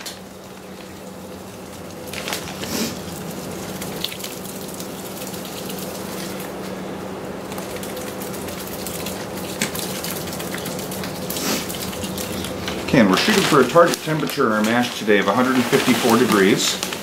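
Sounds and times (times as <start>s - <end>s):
water running from a hose: 0.1s - 17.0s.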